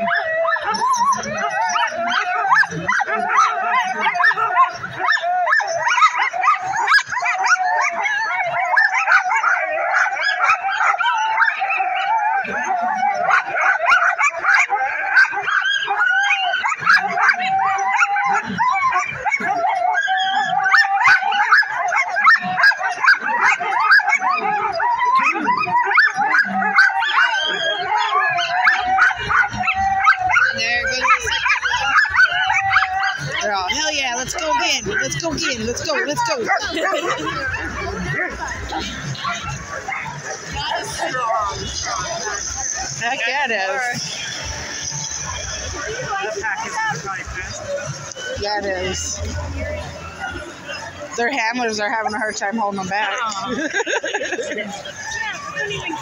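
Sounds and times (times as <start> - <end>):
sled dogs barking and howling: 0.0 - 56.0.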